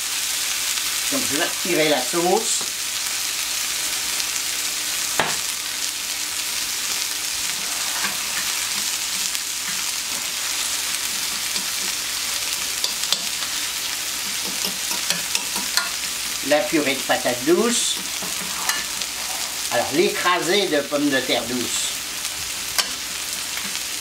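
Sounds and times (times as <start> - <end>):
meat sizzling on a hot plate: 0.0 - 24.0.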